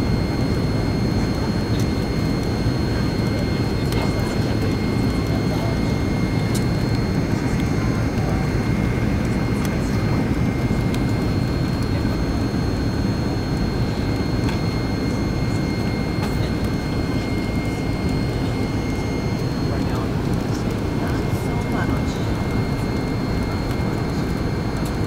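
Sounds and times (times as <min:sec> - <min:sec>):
faint high whine: 0:00.0 - 0:25.0
jet engines and airflow rush: 0:00.0 - 0:25.0.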